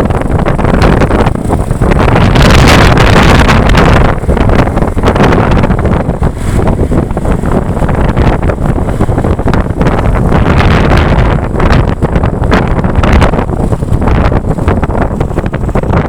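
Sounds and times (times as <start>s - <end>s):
road and engine noise: 0.0s - 16.0s
wind buffeting microphone: 0.0s - 16.0s.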